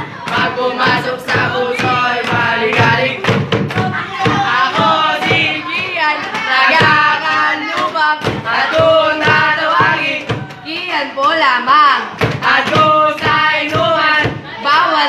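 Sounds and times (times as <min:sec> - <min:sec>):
sharp claps: 0:00.0 - 0:11.5, 0:12.1 - 0:14.5
voices singing: 0:00.0 - 0:15.0.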